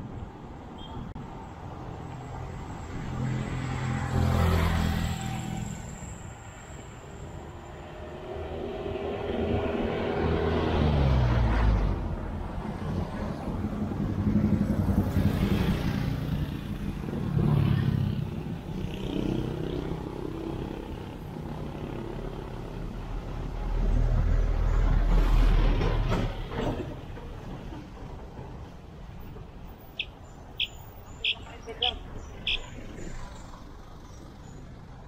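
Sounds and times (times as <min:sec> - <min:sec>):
traffic passing: 0:00.0 - 0:35.0.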